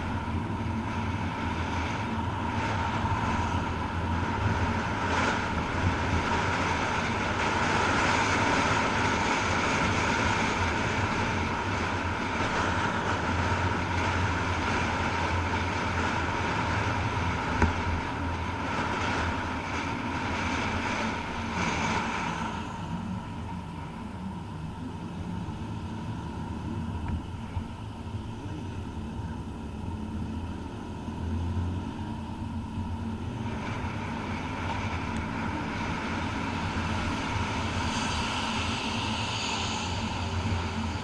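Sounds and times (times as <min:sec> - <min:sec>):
car engine hum: 0:00.0 - 0:41.0
tyres and wind rushing: 0:00.0 - 0:41.0.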